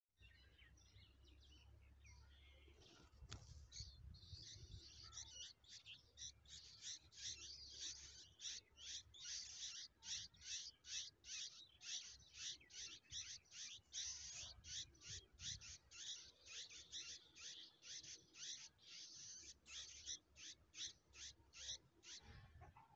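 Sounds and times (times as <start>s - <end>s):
nestlings begging calls: 3.7s - 22.4s.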